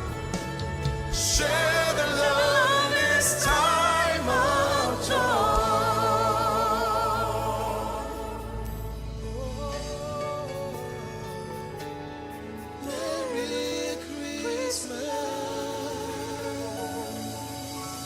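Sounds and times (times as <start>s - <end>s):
backing band: 0.0s - 18.0s
gospel singing: 0.0s - 18.0s.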